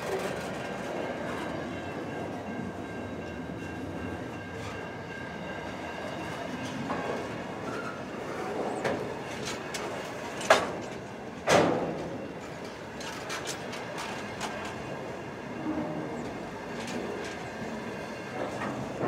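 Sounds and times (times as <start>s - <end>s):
clicks of train wheels: 0.0s - 19.0s
freight train wheels rumbling on rail: 0.0s - 19.0s.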